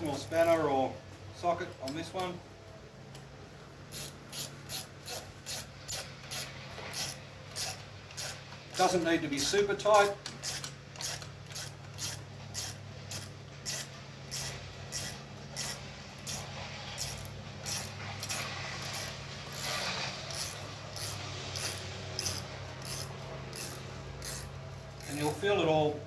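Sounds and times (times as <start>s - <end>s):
ratchet wrench clicking: 0.1s - 0.7s, 3.9s - 25.4s.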